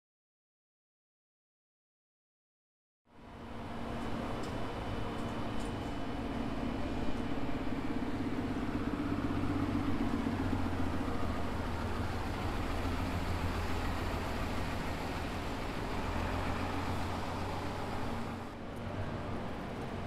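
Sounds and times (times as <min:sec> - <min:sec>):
bus engine droning: 0:03.1 - 0:20.0.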